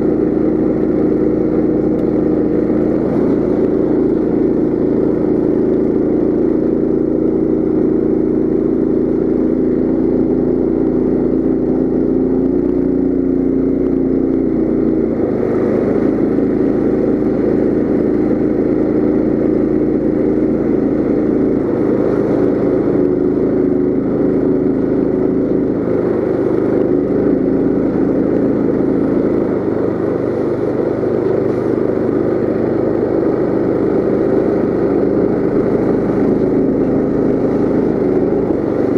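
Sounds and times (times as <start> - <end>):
mini bike engine running: 0.0 - 38.9.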